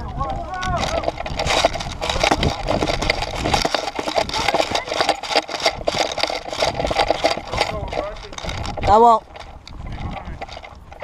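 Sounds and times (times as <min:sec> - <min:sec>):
rustling and knocking on camera: 0:00.6 - 0:11.0.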